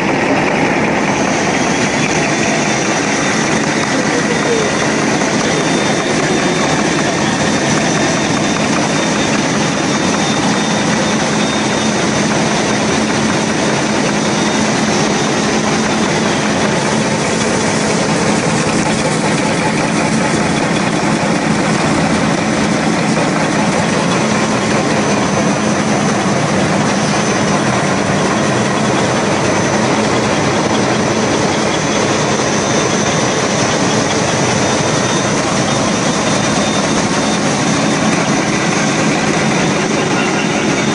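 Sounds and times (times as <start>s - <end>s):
faint high whines: 0.0s - 40.9s
packing machine running: 0.0s - 40.9s.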